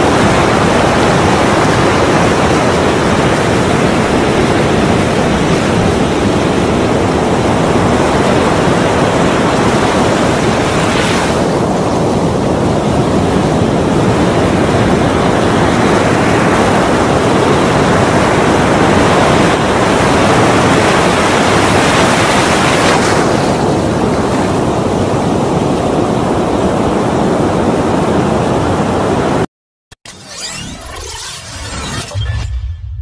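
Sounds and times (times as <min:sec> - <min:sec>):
ocean waves breaking: 0:00.0 - 0:29.4.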